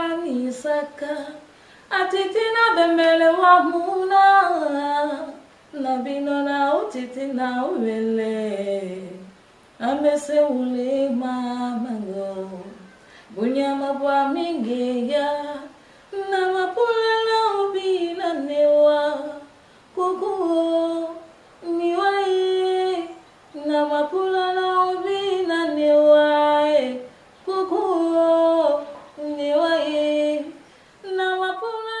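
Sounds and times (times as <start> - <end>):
woman singing unaccompanied: 0.0 - 32.0.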